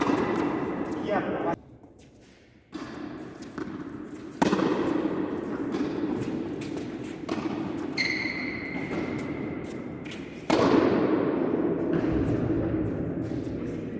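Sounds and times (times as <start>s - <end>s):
racquet hitting tennis ball: 0.0s - 1.2s, 2.7s - 13.4s.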